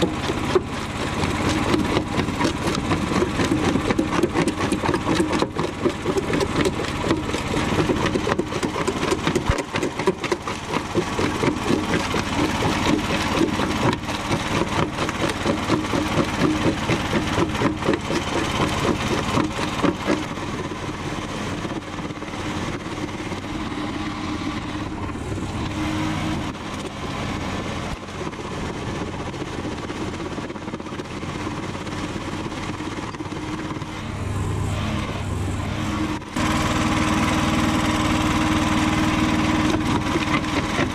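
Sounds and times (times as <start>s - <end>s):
jaw crusher crunching concrete: 0.0s - 34.1s, 36.2s - 40.9s.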